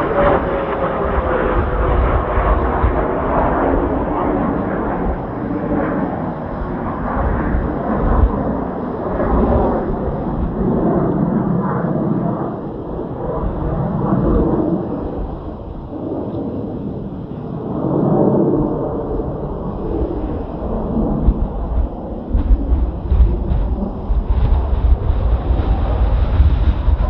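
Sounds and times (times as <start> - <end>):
gusty wind buffeting microphone: 0.0 - 27.0.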